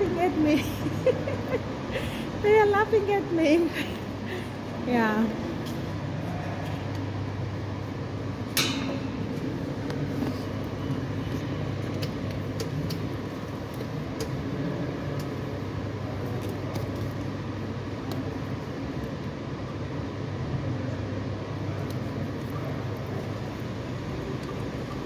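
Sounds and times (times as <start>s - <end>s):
low hum of indoor hall: 0.0s - 25.0s.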